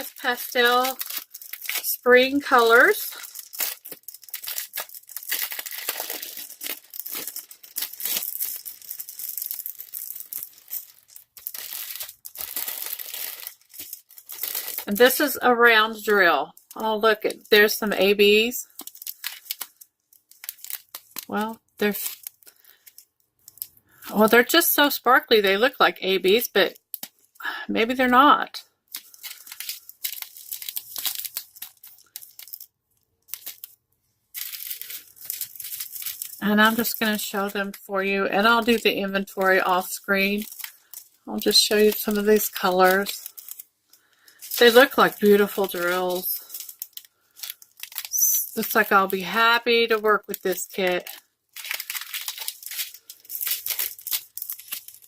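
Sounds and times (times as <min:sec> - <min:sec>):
plastic bags crinkling: 0:00.0 - 0:24.6, 0:28.7 - 0:55.0.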